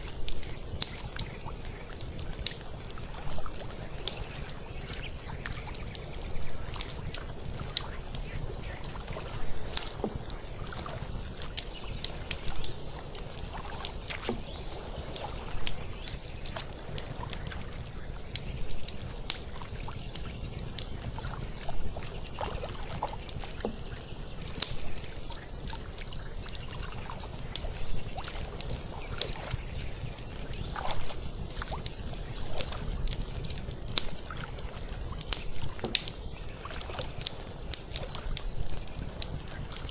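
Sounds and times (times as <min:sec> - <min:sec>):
water lapping and trickling: 0:00.0 - 0:39.9
wood fire crackling: 0:00.0 - 0:39.9.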